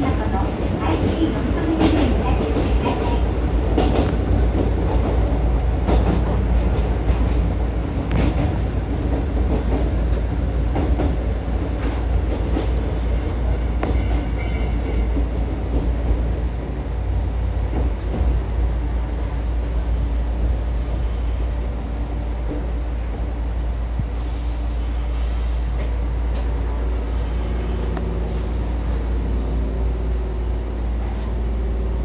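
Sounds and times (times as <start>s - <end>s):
train interior rumble: 0.0s - 32.0s.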